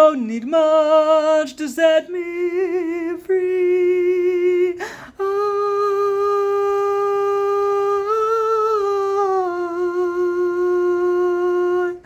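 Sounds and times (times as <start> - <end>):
person humming a melody: 2.2 - 12.0.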